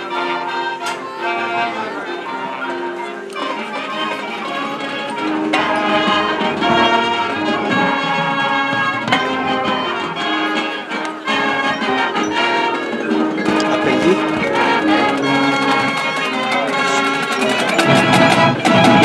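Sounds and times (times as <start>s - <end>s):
brass chords with sharp hits: 0.0s - 19.0s
marching band playing: 0.0s - 19.0s.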